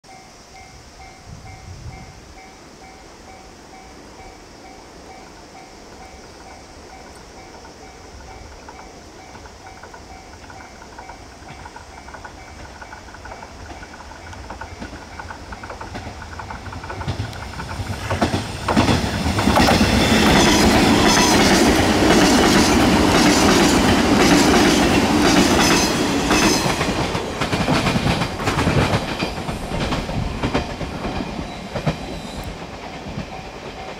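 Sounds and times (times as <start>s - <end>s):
electric train passing: 0.1s - 33.9s.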